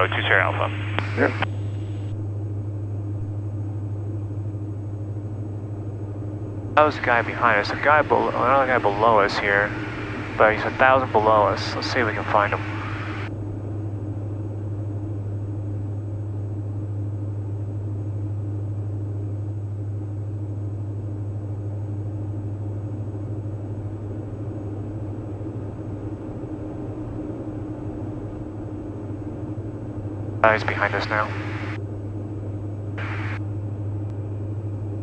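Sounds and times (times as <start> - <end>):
aircraft cabin engine drone: 0.0 - 35.0.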